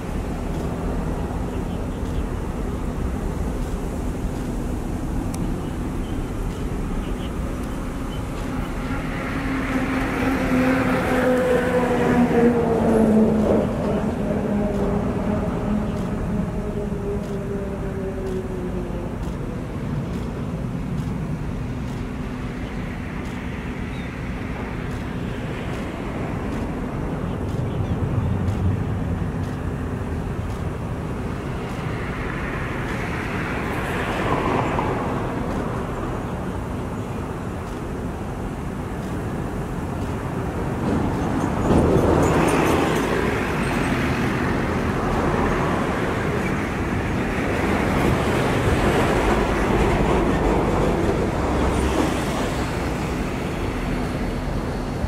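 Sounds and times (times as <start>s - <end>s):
road traffic rumble: 0.0s - 55.0s
vehicles passing: 0.0s - 55.0s.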